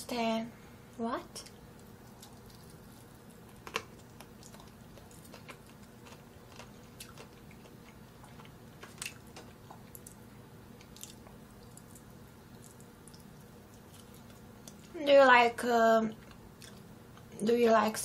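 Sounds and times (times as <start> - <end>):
faint low hum: 0.0 - 18.0
person chewing wetly: 1.4 - 14.9, 16.1 - 17.3.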